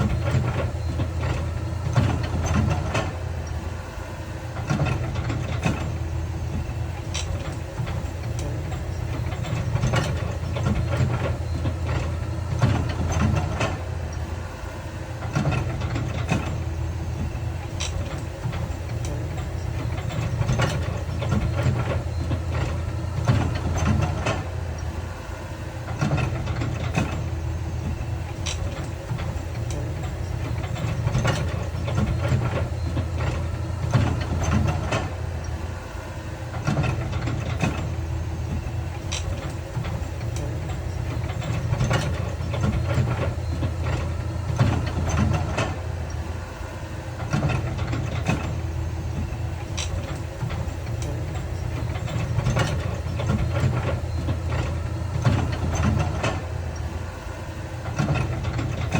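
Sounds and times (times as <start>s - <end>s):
diesel earthmoving machinery running: 0.0s - 58.9s.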